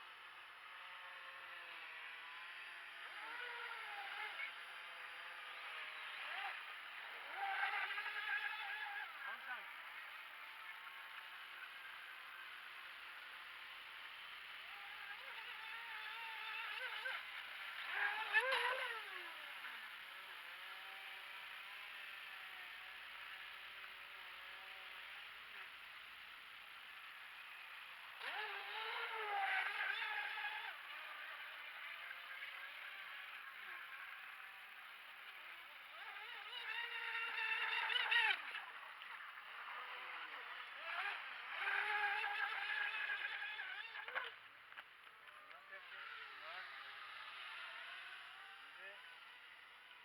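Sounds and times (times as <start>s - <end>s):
model boat motor whining: 0.1s - 50.0s.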